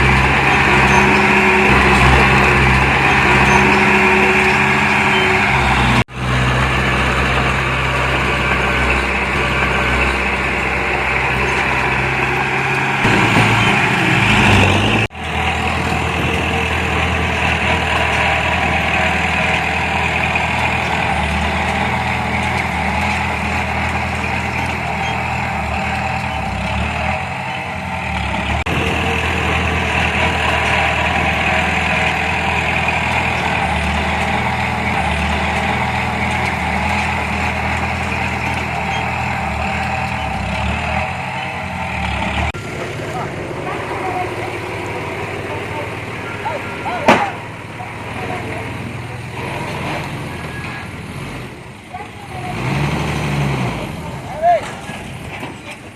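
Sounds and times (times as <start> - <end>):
diesel engine running and revving: 0.0 - 55.9.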